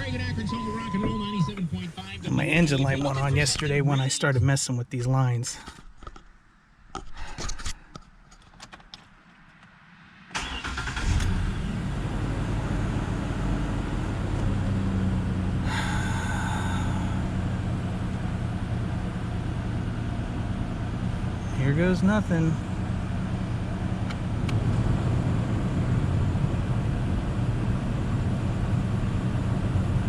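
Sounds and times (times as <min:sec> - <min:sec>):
car engine starting and idling: 0:00.0 - 0:04.1, 0:08.4 - 0:30.0.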